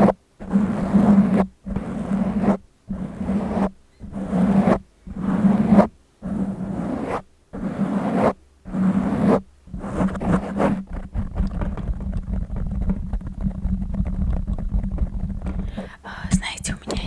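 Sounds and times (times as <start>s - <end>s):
fingers scratching a microphone: 0.0s - 17.0s.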